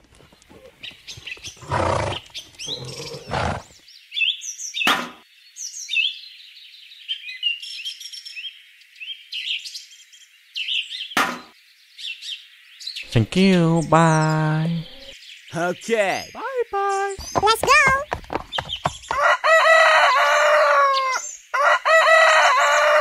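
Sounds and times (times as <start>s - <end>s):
small birds chirping: 0.0s - 19.4s.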